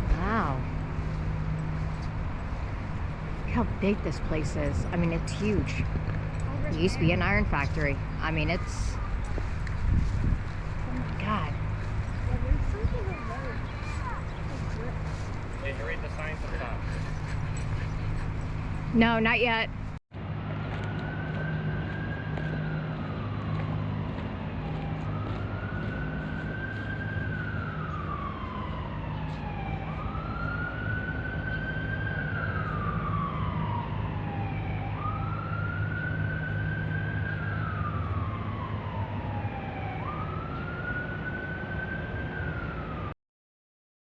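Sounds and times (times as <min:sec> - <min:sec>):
emergency vehicle siren wailing: 0:00.0 - 0:43.2.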